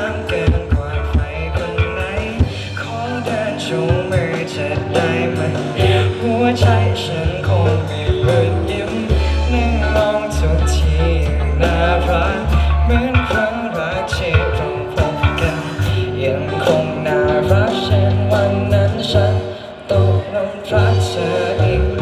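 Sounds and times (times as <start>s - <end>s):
low bass notes: 0.0s - 22.0s
drum hits: 0.3s - 19.2s
wavering melody line: 1.3s - 22.0s.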